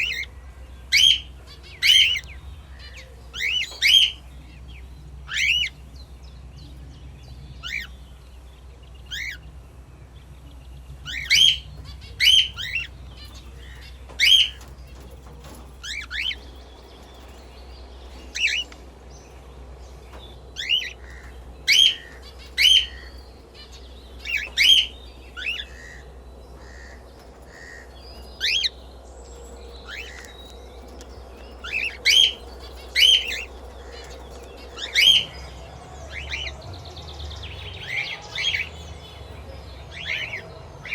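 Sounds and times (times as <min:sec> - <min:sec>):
parrots chirping: 0:00.0 - 0:06.4, 0:07.6 - 0:09.5, 0:10.2 - 0:40.9
steady low hum: 0:00.0 - 0:40.9.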